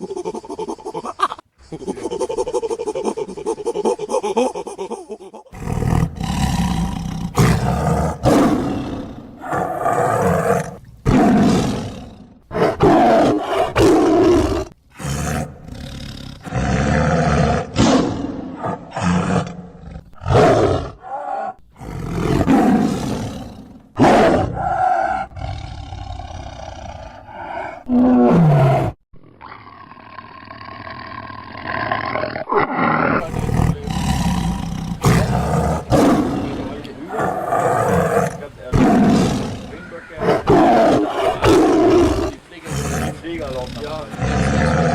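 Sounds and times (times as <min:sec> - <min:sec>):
animal roars: 0:05.5 - 0:44.9.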